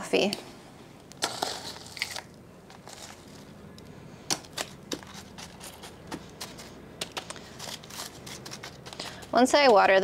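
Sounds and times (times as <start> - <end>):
potting mix clicking and rustling: 1.0 - 10.0.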